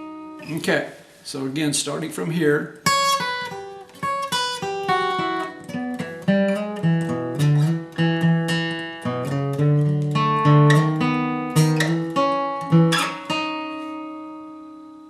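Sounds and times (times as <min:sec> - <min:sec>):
acoustic guitar bluegrass lead: 0:00.0 - 0:01.9, 0:02.6 - 0:15.0.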